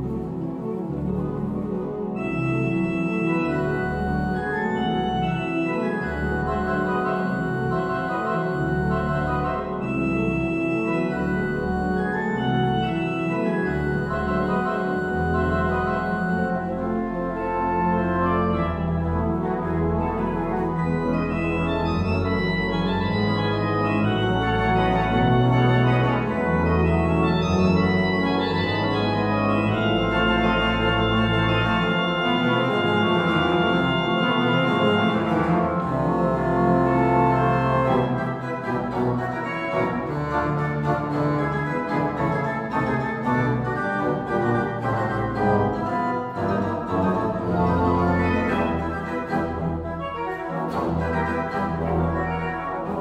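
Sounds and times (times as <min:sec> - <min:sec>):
organ pedal bass notes: 0:00.0 - 0:53.0
pipe organ quick notes: 0:00.0 - 0:53.0.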